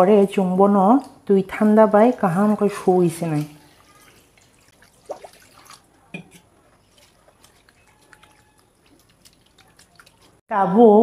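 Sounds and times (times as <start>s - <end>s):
water drips and small splashes: 0.9s - 10.4s.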